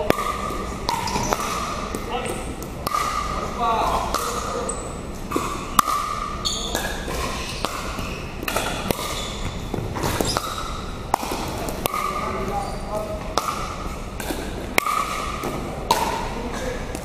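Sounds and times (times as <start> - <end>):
ball bouncing on hardwood court: 0.0 - 17.0.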